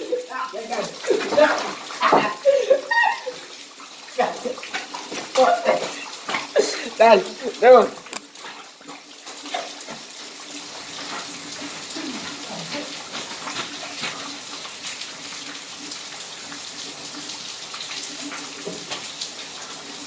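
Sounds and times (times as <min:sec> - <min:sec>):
water running and splashing: 0:00.0 - 0:20.0.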